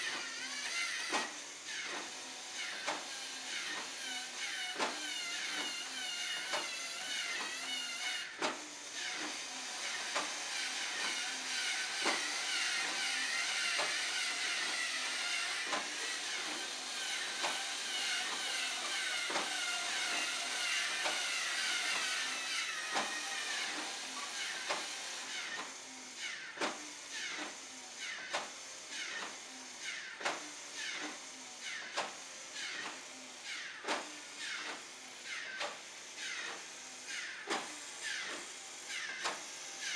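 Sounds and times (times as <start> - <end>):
motors and gears whirring: 0.0 - 39.9.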